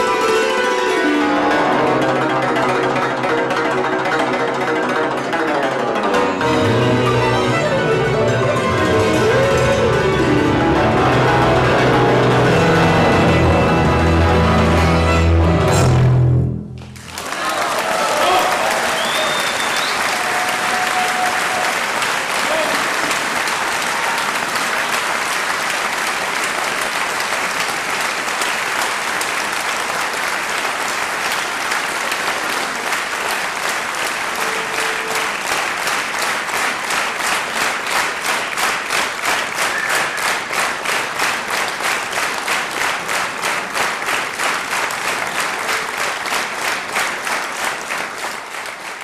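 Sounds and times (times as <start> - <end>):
audience applauding: 0.0 - 15.3, 16.8 - 49.0.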